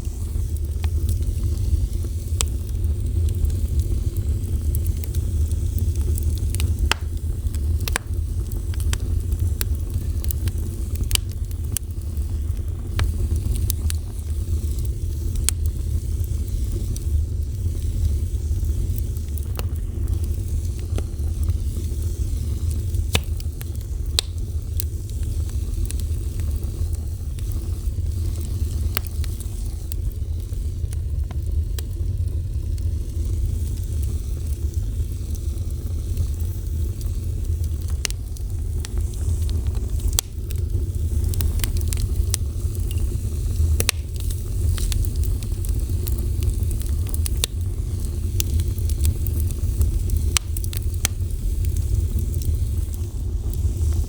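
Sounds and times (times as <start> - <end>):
fire crackles and pops: 0.0 - 54.0
low rumble of flame: 0.0 - 54.0.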